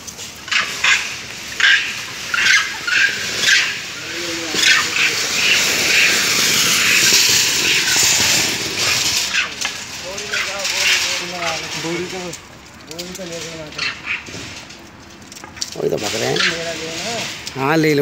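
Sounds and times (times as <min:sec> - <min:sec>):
steady rushing noise: 0:00.0 - 0:18.0
monkeys squealing: 0:00.4 - 0:12.2, 0:13.4 - 0:14.6, 0:15.8 - 0:17.4.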